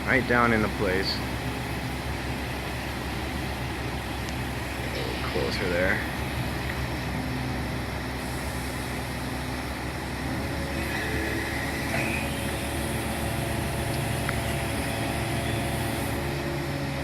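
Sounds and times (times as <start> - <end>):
crane engine droning: 0.0 - 17.0.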